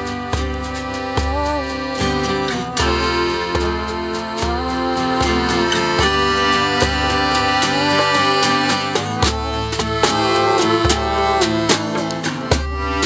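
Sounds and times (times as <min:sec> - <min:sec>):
accordion chords: 0:00.0 - 0:13.0
djembe drum: 0:00.0 - 0:13.0
strummed acoustic guitar: 0:00.0 - 0:13.0.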